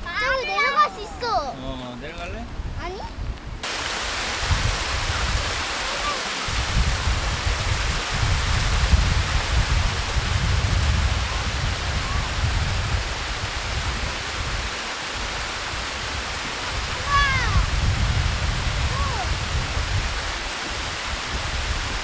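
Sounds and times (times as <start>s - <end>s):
wind buffeting microphone: 0.0s - 22.0s
flowing water rushing: 3.6s - 22.0s.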